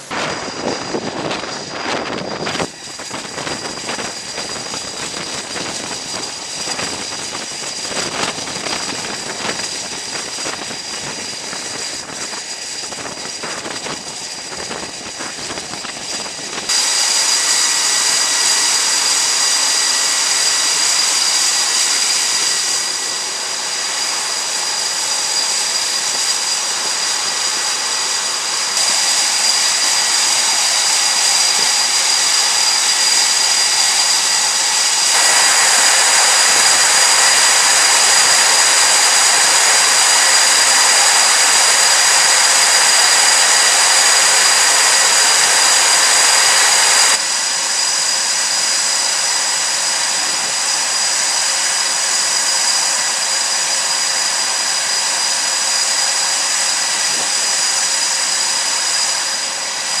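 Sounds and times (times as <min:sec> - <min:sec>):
jet engines whining and roaring: 0:00.0 - 1:00.0.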